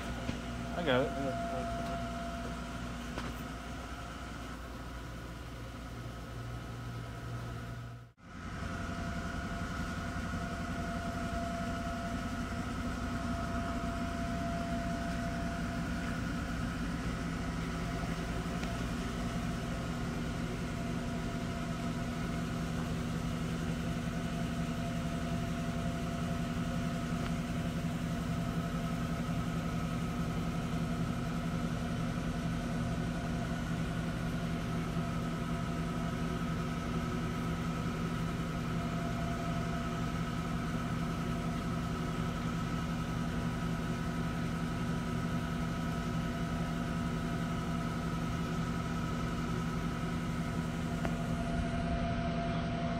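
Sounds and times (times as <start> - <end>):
steady machine hum: 0.0 - 52.9.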